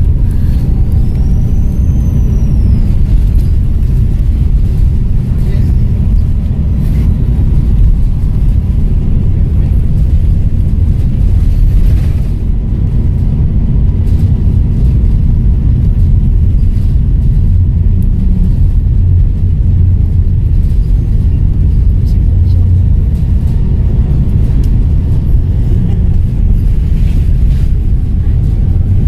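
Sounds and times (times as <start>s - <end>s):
diesel bus engine rumbling: 0.0s - 29.0s.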